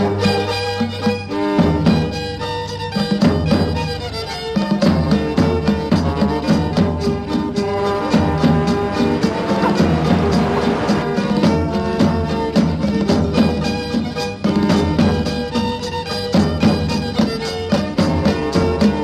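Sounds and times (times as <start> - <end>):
instrumental folk music: 0.0 - 19.0.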